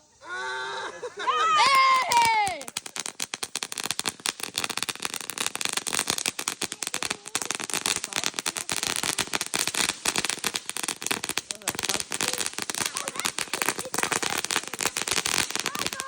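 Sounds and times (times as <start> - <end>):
firecrackers popping: 1.3 - 16.0.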